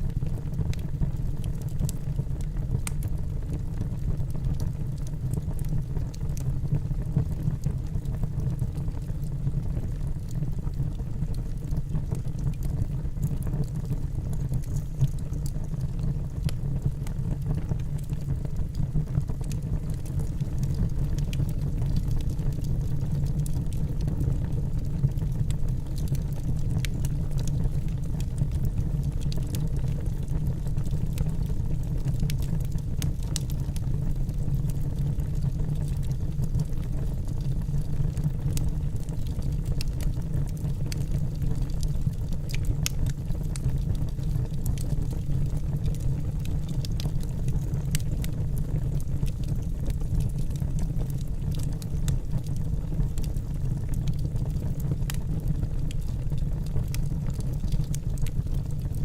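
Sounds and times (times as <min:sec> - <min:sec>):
wood fire burning in fireplace: 0:00.0 - 0:59.0.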